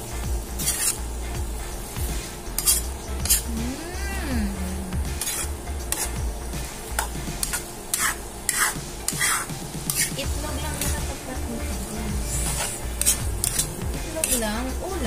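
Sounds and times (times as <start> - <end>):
metal spatula scraping wok: 0.0 - 1.2, 1.8 - 3.6, 5.1 - 6.2, 6.8 - 15.0
oil sizzling: 0.0 - 15.0.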